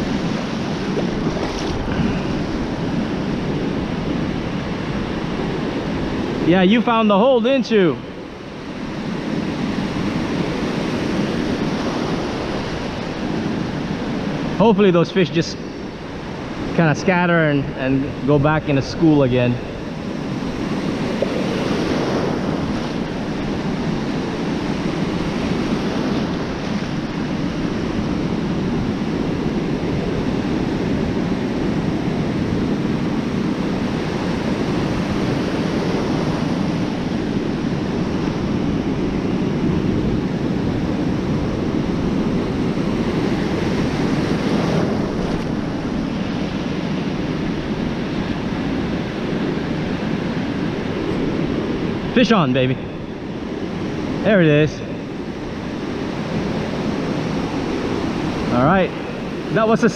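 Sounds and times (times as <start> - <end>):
ocean surf breaking: 0.0 - 59.9
wind buffeting microphone: 0.0 - 59.9.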